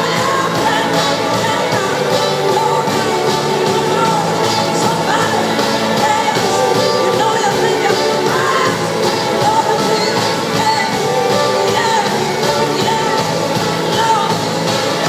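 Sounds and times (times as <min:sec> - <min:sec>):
drums: 0:00.0 - 0:15.0
electric guitars: 0:00.0 - 0:15.0
horn section: 0:00.0 - 0:15.0
woman singing: 0:00.0 - 0:15.0.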